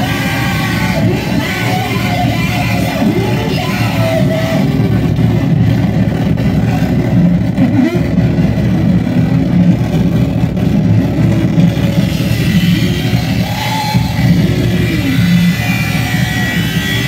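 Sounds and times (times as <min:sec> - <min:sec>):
harsh distorted noise music: 0:00.0 - 0:17.0.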